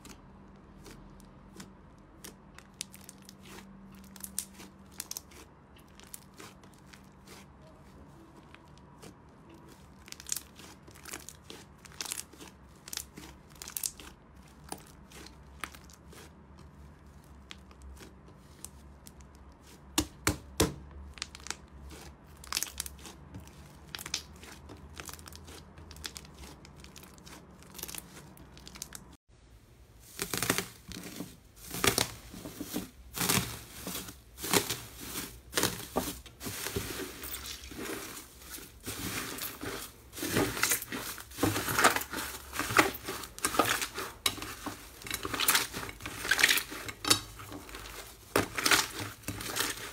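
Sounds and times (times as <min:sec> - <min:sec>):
slime crackling and popping: 0:00.0 - 0:07.6, 0:08.4 - 0:29.2, 0:30.0 - 0:32.3, 0:33.0 - 0:49.9
slime with foil crinkling: 0:00.0 - 0:29.2, 0:29.9 - 0:49.9.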